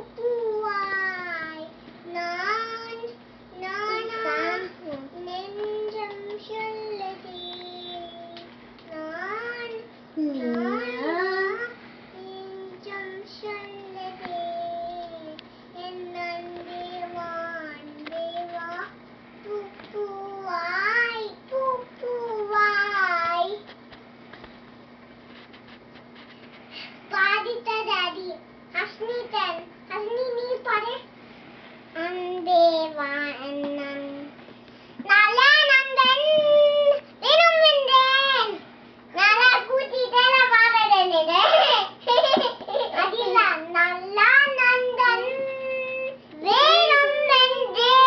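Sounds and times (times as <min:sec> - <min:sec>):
girl singing slow song: 0:00.0 - 0:23.8, 0:27.0 - 0:41.4, 0:43.0 - 0:48.0.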